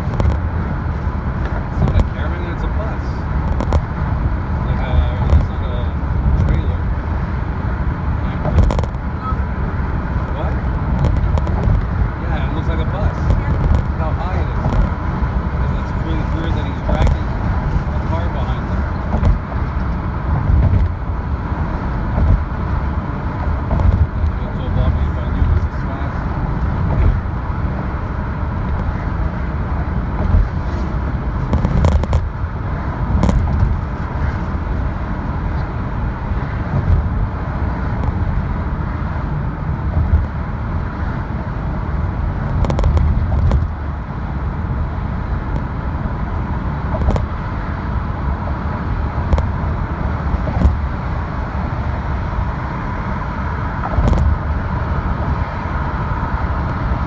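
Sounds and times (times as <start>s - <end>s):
tyre and engine rumble: 0.0s - 57.0s.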